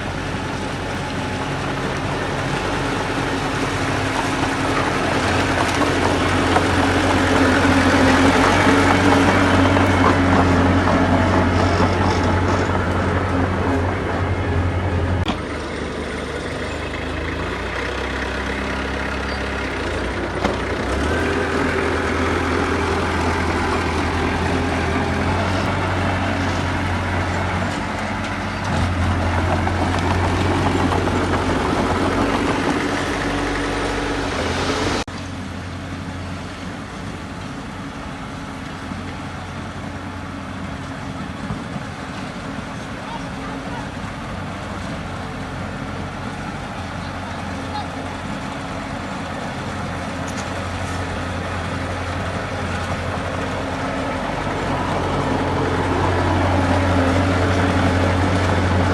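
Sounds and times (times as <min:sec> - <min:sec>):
heavy diesel engines running: 0:00.0 - 0:58.9.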